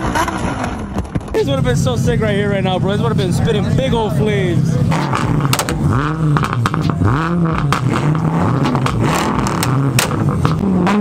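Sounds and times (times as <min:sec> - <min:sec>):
car engine revving: 0:00.0 - 0:11.0
exhaust pops: 0:00.0 - 0:11.0.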